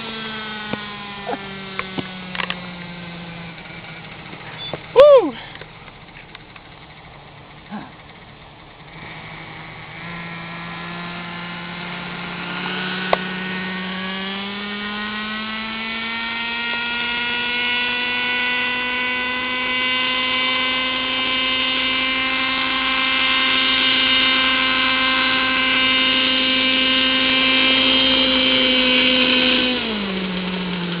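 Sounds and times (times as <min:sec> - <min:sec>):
model helicopter engine and rotor: 0:00.0 - 0:31.0.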